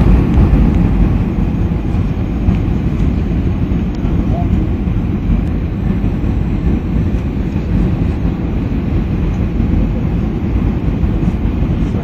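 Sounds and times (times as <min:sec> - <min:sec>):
jet engines and rushing air: 0:00.0 - 0:12.0.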